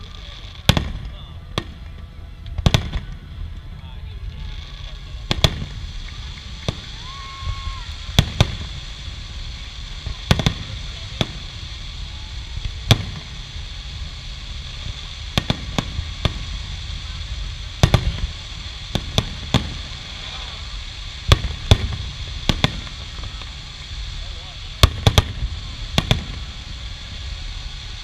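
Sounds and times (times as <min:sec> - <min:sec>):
fireworks bursting with bangs: 0:00.0 - 0:28.0
steady low rumble: 0:00.0 - 0:28.0.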